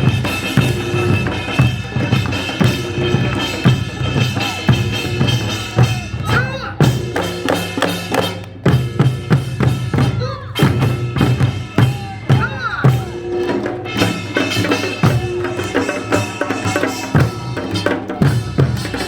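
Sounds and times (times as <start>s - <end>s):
drums and percussion beat: 0.0s - 19.0s.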